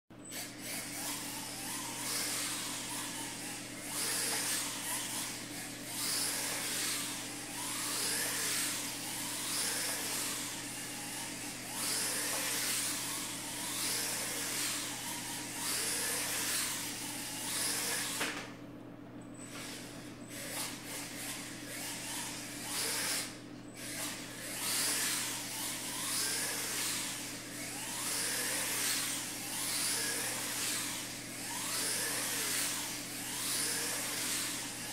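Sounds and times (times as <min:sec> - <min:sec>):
steady low hum: 0:00.1 - 0:34.9
rc car motor whine: 0:00.2 - 0:18.6, 0:19.4 - 0:34.9.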